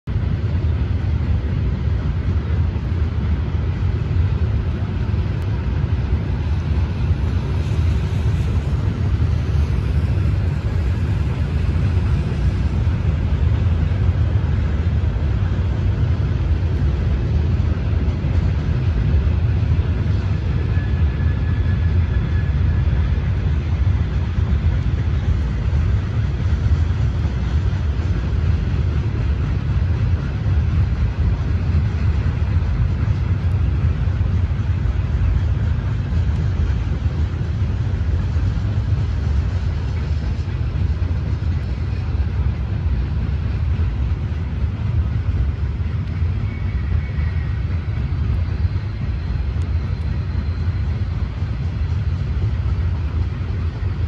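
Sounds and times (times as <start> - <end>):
low rumbling noise: 0.0 - 54.0.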